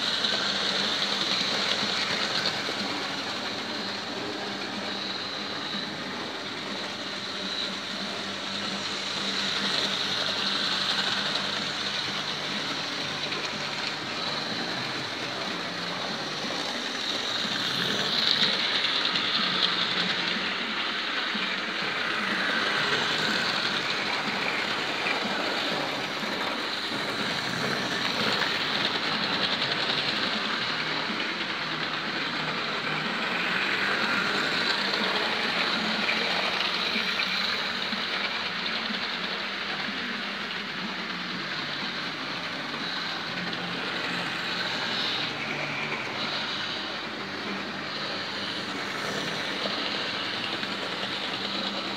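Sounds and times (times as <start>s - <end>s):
model train motor whirring: 0.0s - 51.9s
train wheels rattling on rails: 0.0s - 51.9s.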